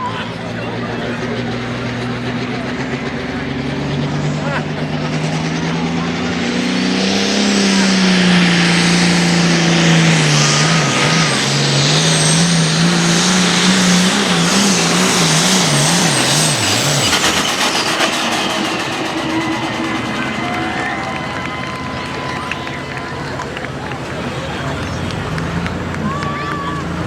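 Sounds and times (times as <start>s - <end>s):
diesel tractor engine roaring: 0.0s - 27.0s.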